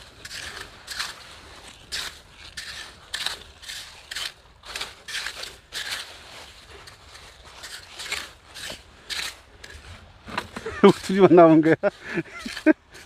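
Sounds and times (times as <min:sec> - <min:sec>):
rake scraping wet sand: 0:00.0 - 0:13.0.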